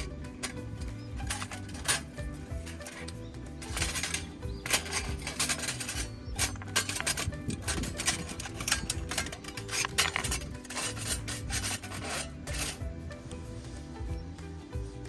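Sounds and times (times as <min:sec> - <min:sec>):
rapid rasping scrapes: 0:00.0 - 0:12.9
quiet background music: 0:00.0 - 0:15.0.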